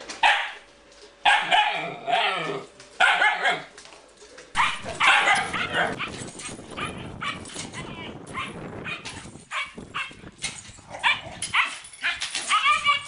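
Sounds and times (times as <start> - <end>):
dogs barking and yipping: 0.2 - 0.6, 1.2 - 3.7, 4.5 - 13.0.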